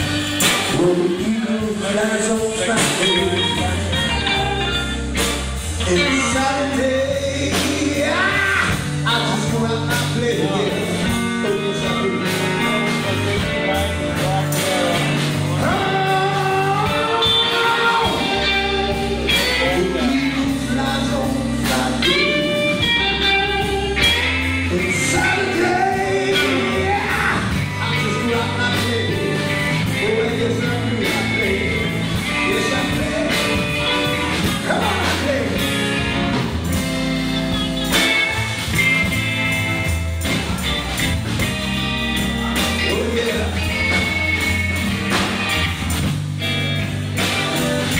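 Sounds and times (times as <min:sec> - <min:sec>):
man singing: 0:00.0 - 0:36.8, 0:42.2 - 0:45.8
bass guitar: 0:00.0 - 0:47.9
drums: 0:00.0 - 0:47.9
electric guitars: 0:00.0 - 0:47.9.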